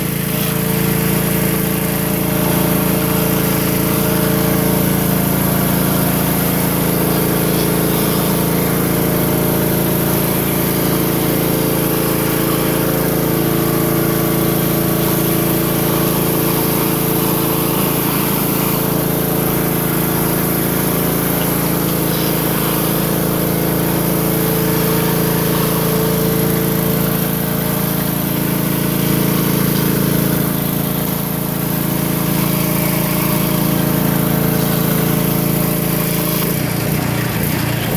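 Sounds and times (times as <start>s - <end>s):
high-pressure water spraying: 0.0s - 37.9s
pressure washer engine drone: 0.0s - 37.9s.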